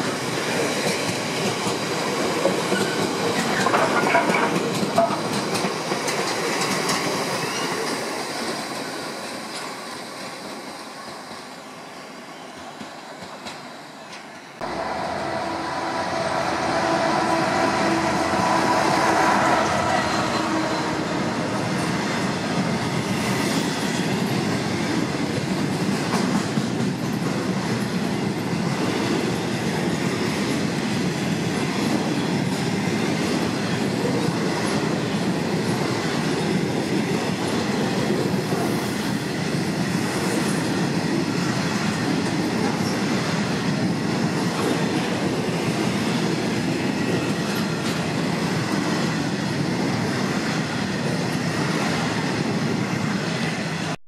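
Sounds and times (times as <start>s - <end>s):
diesel locomotive engine: 0.0s - 54.0s
train wheels rumbling on rails: 0.0s - 54.0s.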